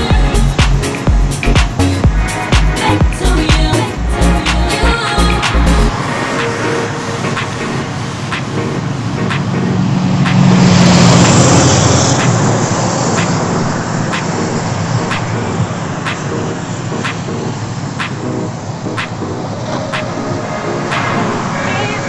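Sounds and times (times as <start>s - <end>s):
road traffic: 0.0s - 22.0s
vehicle passing close by: 3.8s - 22.0s.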